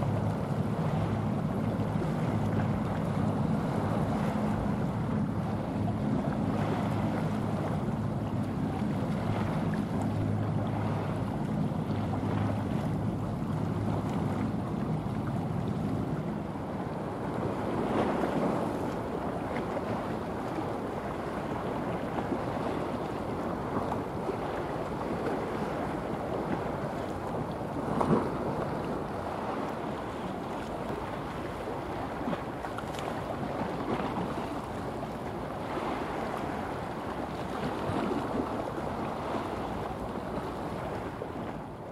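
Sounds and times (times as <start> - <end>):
ship engine hum: 0.0 - 41.9
waves washing: 0.0 - 41.9.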